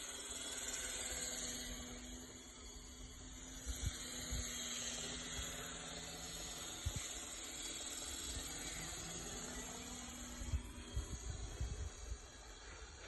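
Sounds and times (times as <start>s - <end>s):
rc helicopter motor humming: 0.0s - 13.0s.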